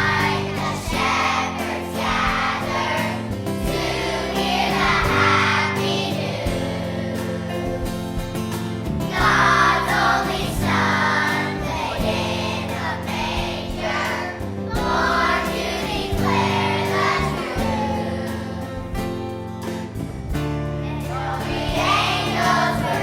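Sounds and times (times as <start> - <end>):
choir singing with instruments: 0.0 - 20.0, 20.8 - 23.0.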